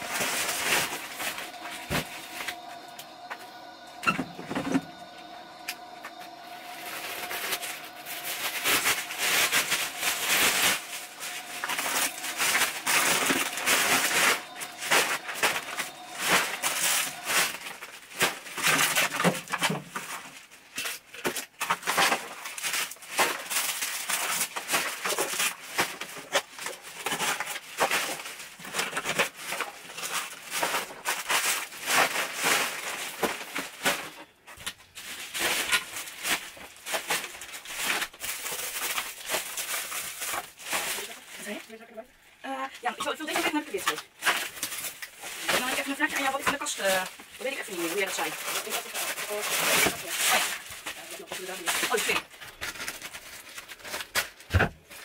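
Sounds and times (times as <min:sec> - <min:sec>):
plastic bags rustling and crinkling: 0:00.0 - 0:55.0.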